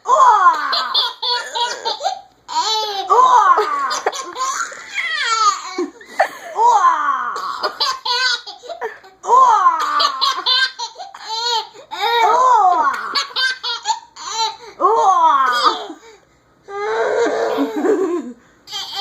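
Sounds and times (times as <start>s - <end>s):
baby laughing: 0.3s - 6.8s, 7.4s - 14.7s, 15.5s - 16.0s, 17.5s - 19.0s.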